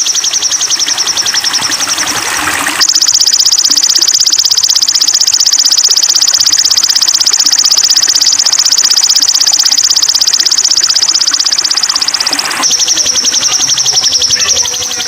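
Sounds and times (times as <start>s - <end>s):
high-pitched rattling bird trill: 0.0s - 2.2s, 2.8s - 15.0s.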